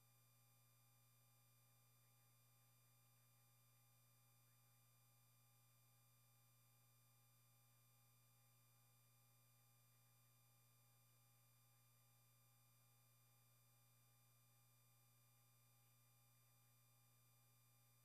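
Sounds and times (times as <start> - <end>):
faint electronic hum and hiss: 0.0 - 18.0.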